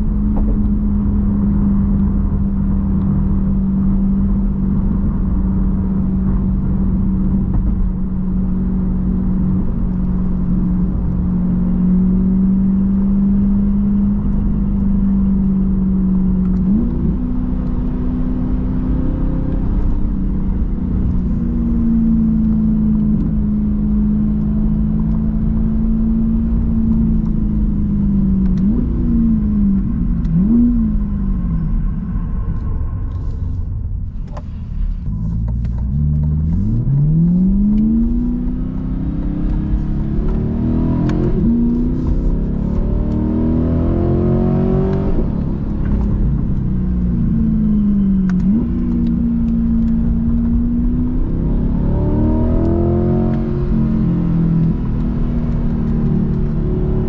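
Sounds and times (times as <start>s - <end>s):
car engine accelerating and shifting: 0.0s - 57.0s.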